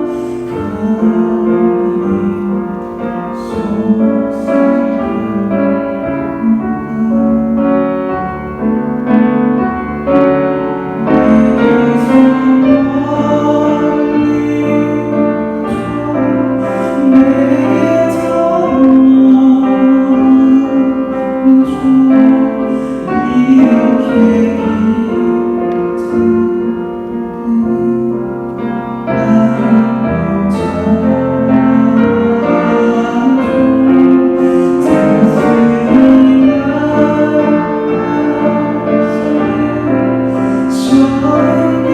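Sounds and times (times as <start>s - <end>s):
man singing a slow ballad: 0.0s - 41.9s
piano accompaniment: 0.0s - 41.9s.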